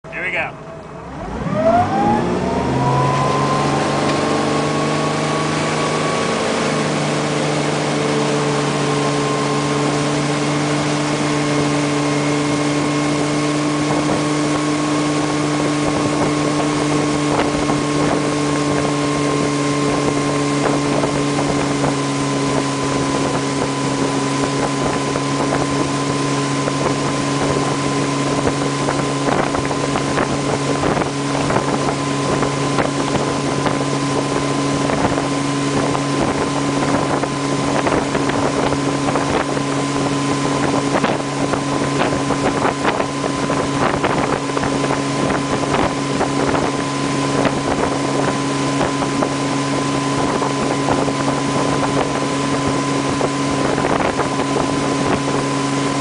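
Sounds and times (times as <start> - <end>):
motorboat engine: 0.0 - 56.0
wake water rushing: 0.0 - 56.0
wind on microphone: 0.1 - 56.0.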